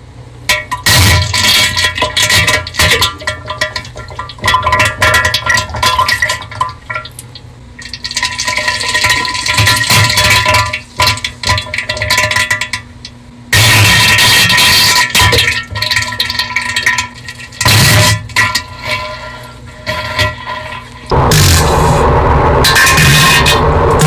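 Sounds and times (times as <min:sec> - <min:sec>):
toilet flushing: 0:00.7 - 0:07.2, 0:07.8 - 0:12.9, 0:13.6 - 0:24.0.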